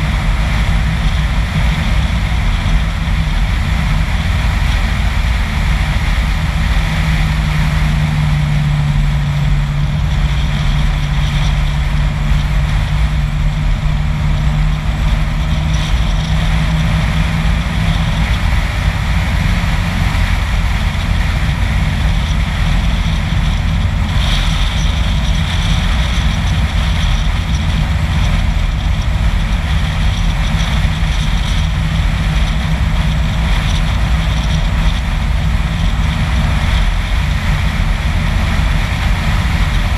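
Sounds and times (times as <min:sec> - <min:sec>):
low steady hum: 0:00.0 - 0:39.9
road and wind noise: 0:00.0 - 0:39.9.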